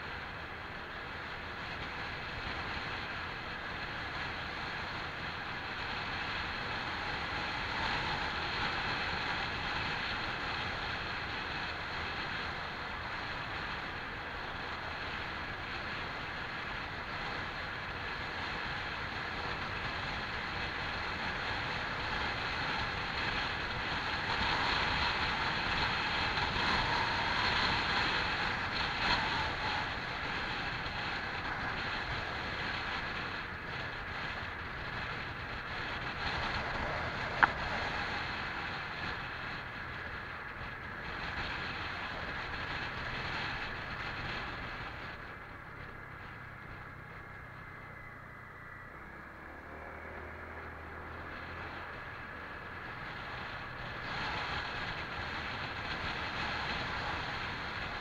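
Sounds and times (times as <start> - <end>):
scooter engine and road noise: 0.0 - 58.0
wind rush over microphone: 1.8 - 47.4, 49.9 - 58.0.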